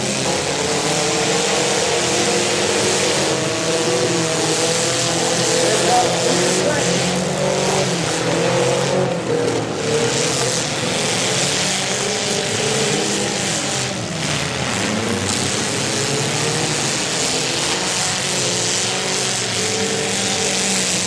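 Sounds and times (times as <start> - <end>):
car engines revving: 0.0 - 21.0
wheels spinning in mud: 0.0 - 21.0.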